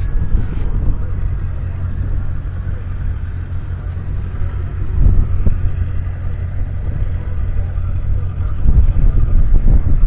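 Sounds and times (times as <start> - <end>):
engine knocks: 0.0 - 10.0
tractor engine idling: 0.0 - 10.0.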